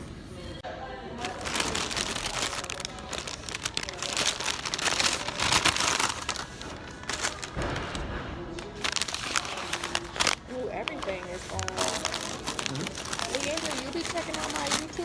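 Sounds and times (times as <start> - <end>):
sandwich wrapper crinkling: 1.2 - 8.0, 8.6 - 15.0.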